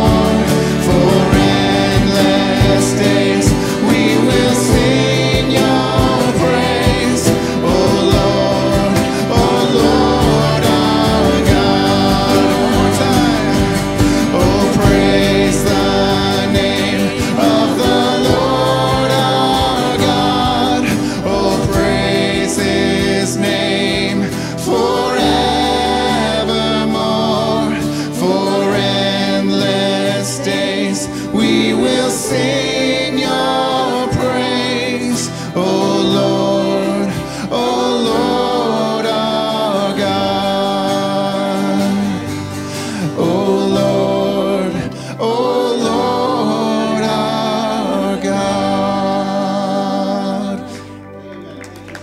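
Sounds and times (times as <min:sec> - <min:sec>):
guitars: 0:00.0 - 0:52.0
keyboard: 0:00.0 - 0:52.0
voices singing together: 0:00.0 - 0:52.0.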